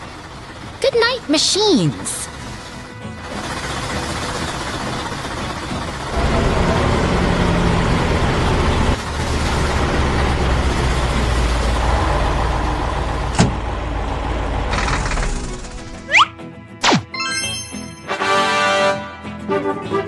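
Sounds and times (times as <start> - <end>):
vehicle engine running: 0.0 - 16.1.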